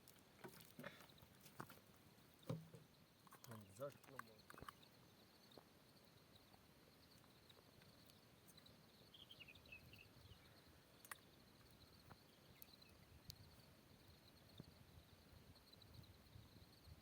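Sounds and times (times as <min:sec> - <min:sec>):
faint chirping: 0:00.0 - 0:17.0
insects chirring: 0:00.0 - 0:17.0.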